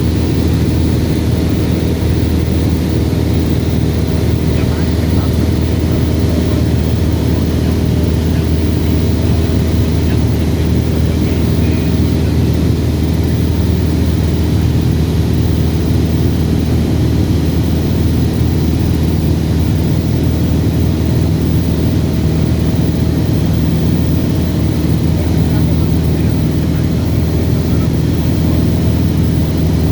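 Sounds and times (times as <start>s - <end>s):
propeller plane engine drone: 0.0s - 29.9s.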